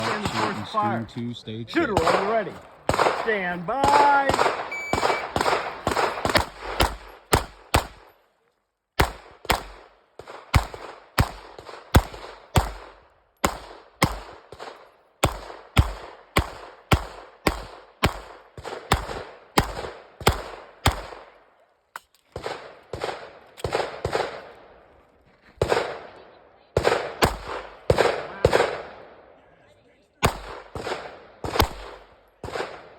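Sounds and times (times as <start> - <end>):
pistol shots with echo: 0.0 - 1.0, 1.8 - 8.2, 9.0 - 21.5, 22.4 - 24.7, 25.6 - 26.2, 26.8 - 29.3, 30.2 - 32.9.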